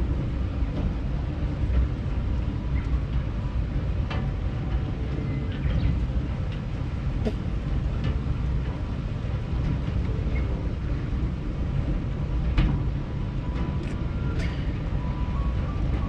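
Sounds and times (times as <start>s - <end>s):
ride rumbling on track: 0.0s - 16.0s.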